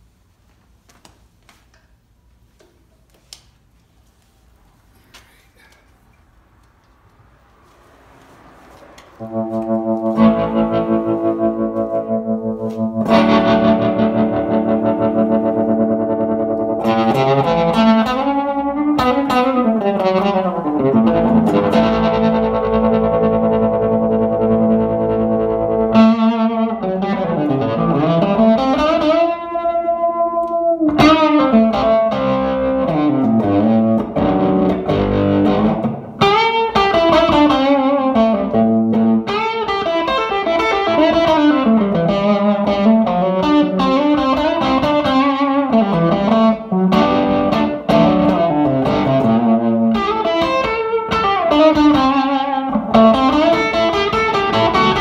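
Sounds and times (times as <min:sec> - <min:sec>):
overdriven electric guitar melody: 0:09.1 - 0:55.0.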